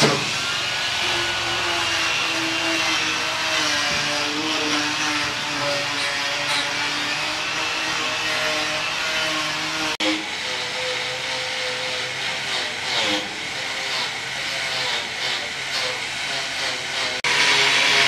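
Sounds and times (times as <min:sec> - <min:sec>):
angle grinder wire brushing steel: 0:00.0 - 0:18.0.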